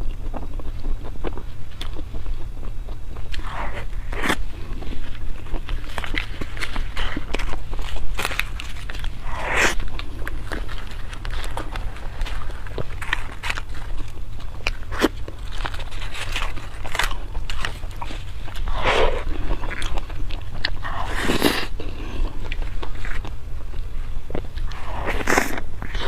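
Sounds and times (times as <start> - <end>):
person chewing seafood: 0.0 - 26.0
steady low hum: 0.0 - 26.0.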